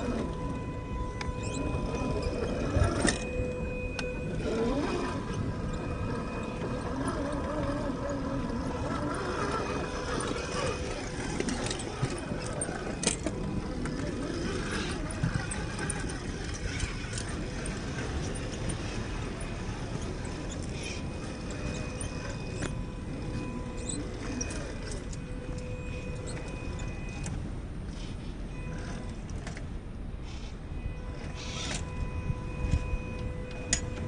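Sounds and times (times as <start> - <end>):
electric motor whining: 0.0 - 29.6, 30.3 - 34.0.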